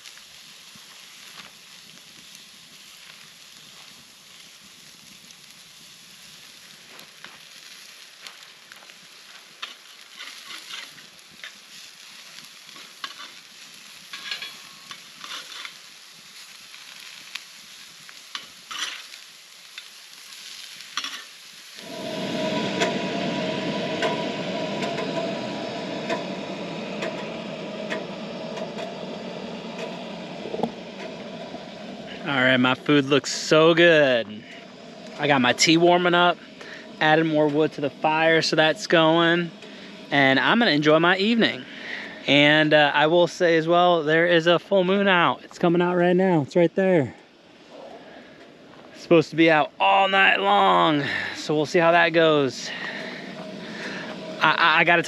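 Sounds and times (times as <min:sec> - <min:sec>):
food frying in a pan: 0:00.0 - 0:22.8, 0:26.3 - 0:43.2, 0:48.9 - 0:55.0
dense sizzle: 0:00.0 - 0:55.0.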